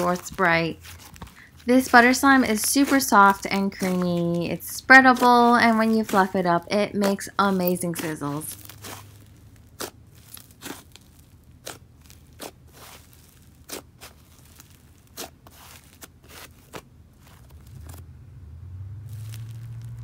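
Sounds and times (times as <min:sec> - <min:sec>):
slime crackling and popping: 0:00.0 - 0:18.0, 0:19.0 - 0:20.0.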